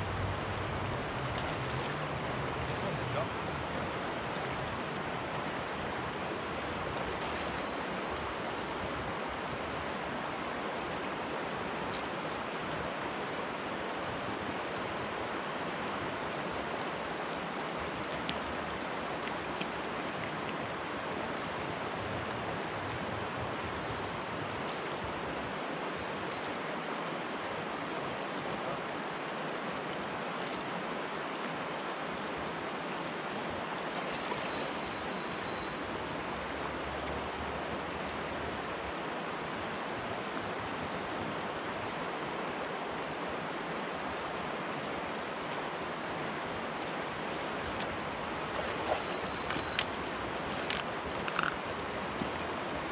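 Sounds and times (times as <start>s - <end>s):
river flowing over rocks: 0.0s - 52.9s.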